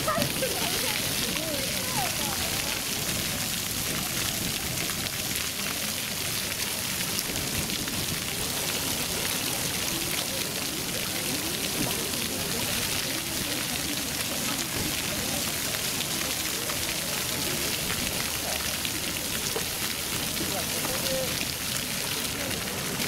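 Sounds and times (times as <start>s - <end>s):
fountain jets splashing on paving: 0.0s - 23.0s.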